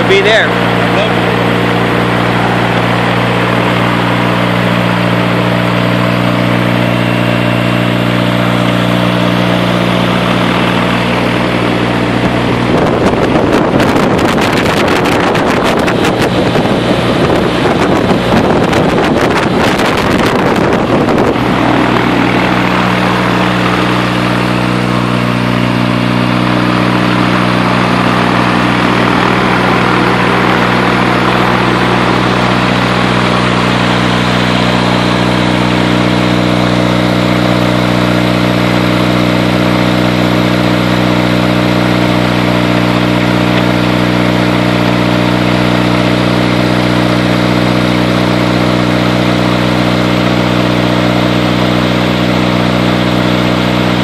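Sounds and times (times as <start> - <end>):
aircraft engine running: 0.0 - 54.0.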